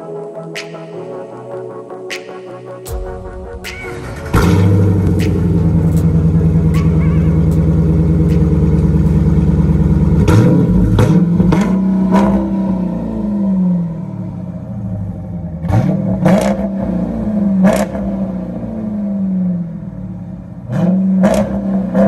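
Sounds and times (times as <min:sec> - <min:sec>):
car engine revving: 0:02.9 - 0:22.0.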